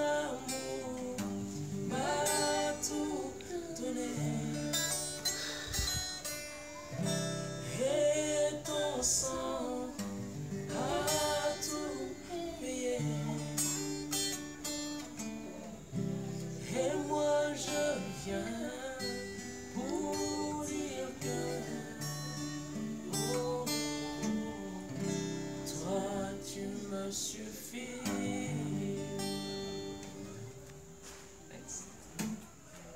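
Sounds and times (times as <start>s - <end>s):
people singing worship song: 0.0s - 6.0s, 6.8s - 31.3s
acoustic guitar strumming: 0.0s - 31.2s.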